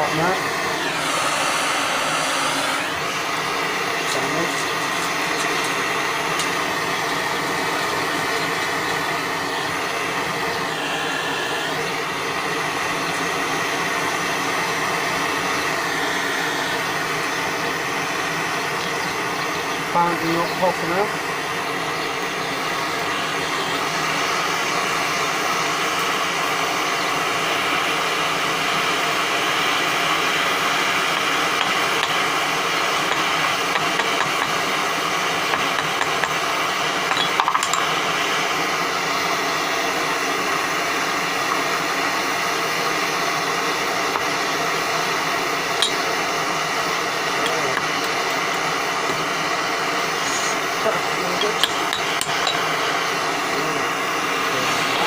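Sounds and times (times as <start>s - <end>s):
torch flame rushing: 0.0s - 18.8s, 20.8s - 55.0s.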